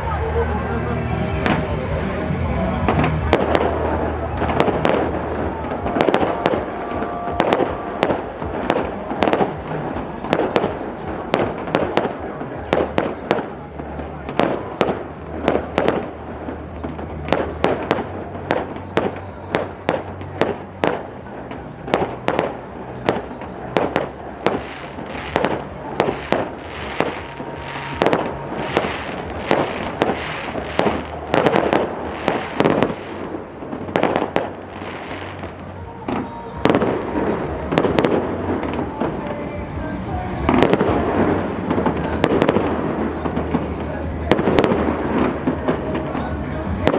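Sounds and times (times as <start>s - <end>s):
fireworks banging: 0.0s - 46.9s.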